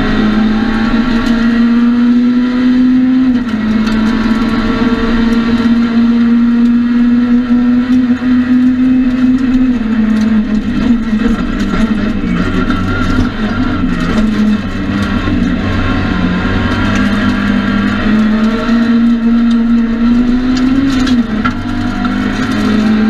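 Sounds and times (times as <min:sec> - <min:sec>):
rally car engine revving hard: 0:00.0 - 0:23.0.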